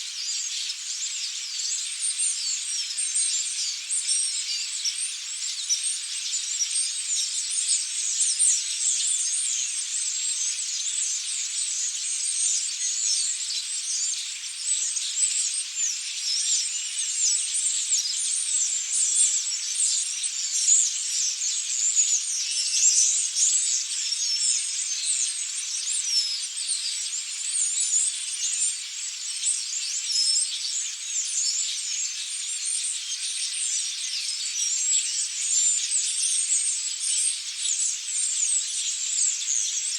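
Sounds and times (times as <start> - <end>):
flock of starlings chattering: 5.5 - 39.9.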